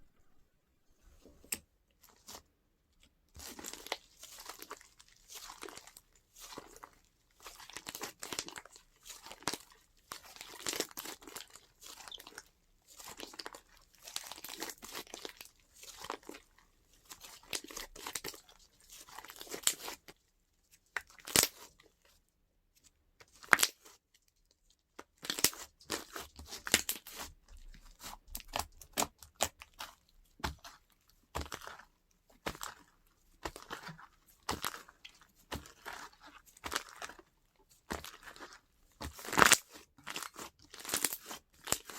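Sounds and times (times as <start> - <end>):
hands squishing slime: 3.3 - 20.2, 20.8 - 22.0, 25.0 - 41.9.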